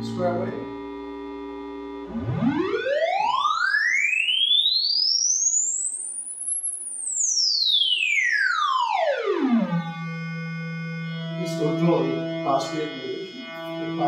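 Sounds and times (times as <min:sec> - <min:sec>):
square wave sweeping in pitch: 0:01.7 - 0:14.0.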